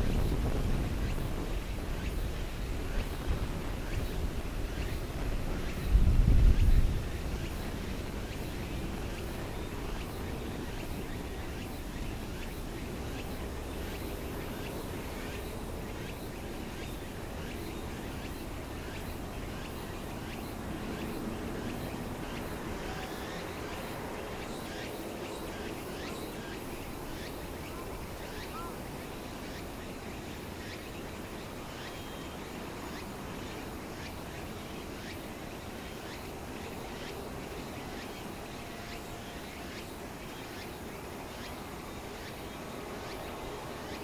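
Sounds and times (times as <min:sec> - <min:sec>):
wind rumble on microphone: 0:00.0 - 0:44.0.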